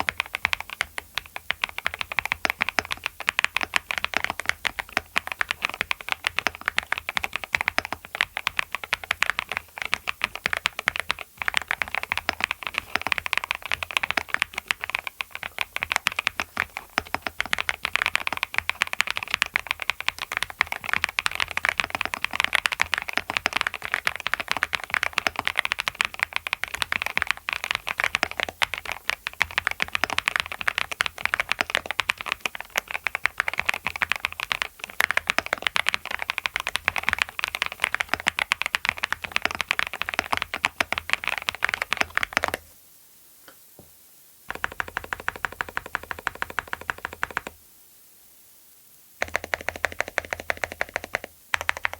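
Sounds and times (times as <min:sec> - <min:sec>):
mechanical keyboard typing: 0:00.0 - 0:42.6, 0:44.5 - 0:47.6, 0:49.2 - 0:51.9.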